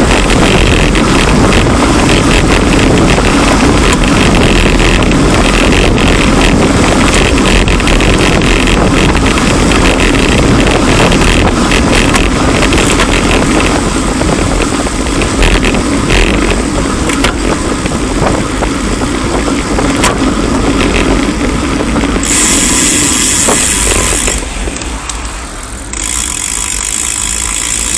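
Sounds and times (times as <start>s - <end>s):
wind on camera microphone: 0.0s - 25.0s
bicycle road noise: 0.0s - 27.9s.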